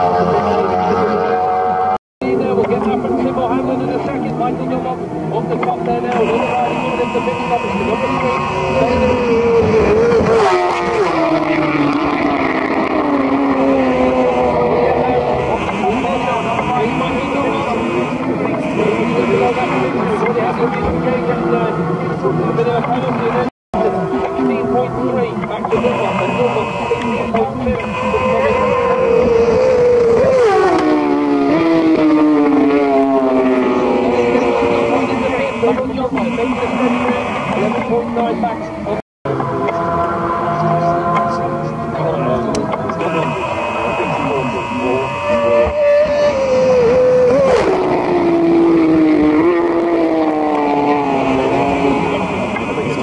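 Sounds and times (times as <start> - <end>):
motorcycle engine at high revs: 6.1 - 21.6, 22.8 - 38.3, 39.4 - 53.0.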